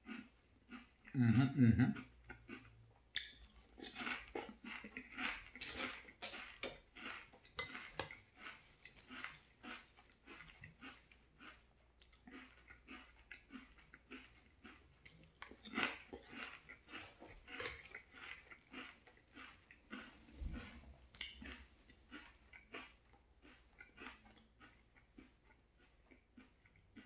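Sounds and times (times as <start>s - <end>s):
person chewing crunchy cereal: 0.0s - 27.0s.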